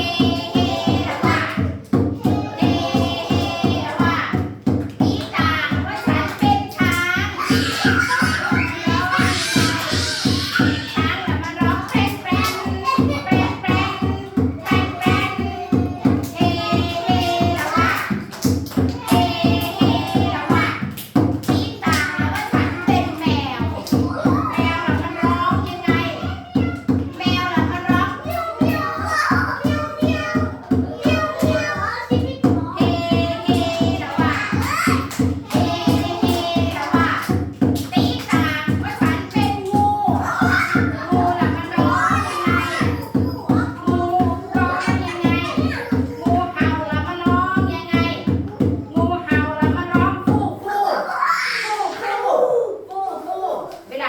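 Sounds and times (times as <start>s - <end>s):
children's song singing: 0.0s - 54.0s.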